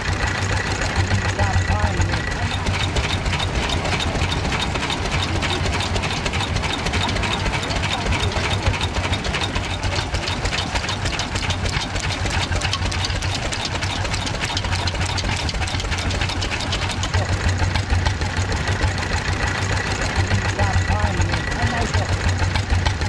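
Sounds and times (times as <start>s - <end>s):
stationary engines ticking at idle: 0.0s - 23.0s.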